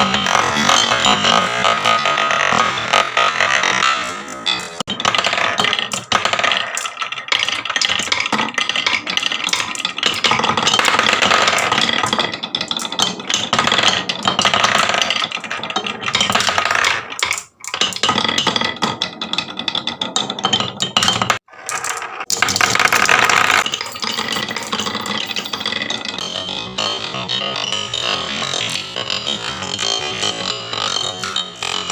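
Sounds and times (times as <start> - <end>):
marbles rattling down wooden run: 0.0 - 31.9.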